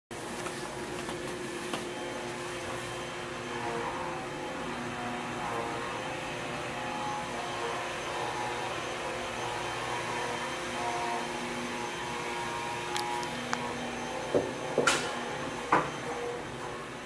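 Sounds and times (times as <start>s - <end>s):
power tool droning: 2.0s - 16.9s.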